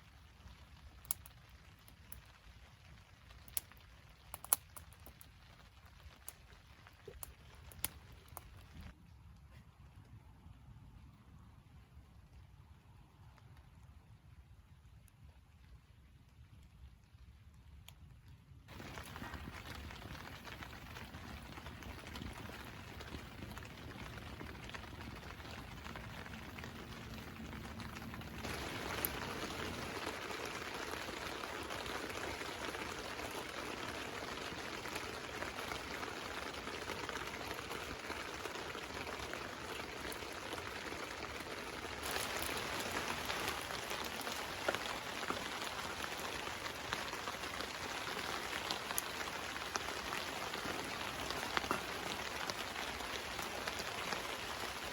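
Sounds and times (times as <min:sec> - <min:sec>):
rain falling on a tarp: 0:00.0 - 0:54.9.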